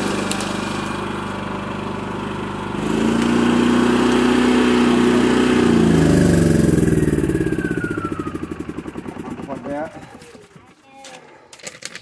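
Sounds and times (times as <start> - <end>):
generator engine running: 0.0 - 10.4.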